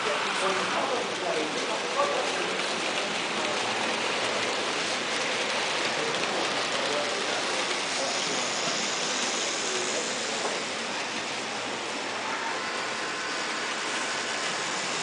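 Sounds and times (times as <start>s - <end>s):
faint indistinct voices: 0.0s - 13.6s.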